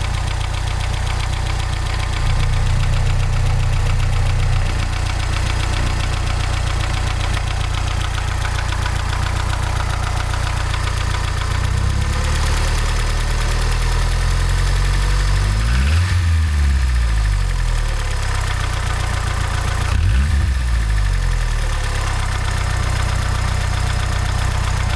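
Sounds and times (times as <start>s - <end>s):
knocking car engine idling: 0.0s - 15.7s, 16.4s - 24.9s.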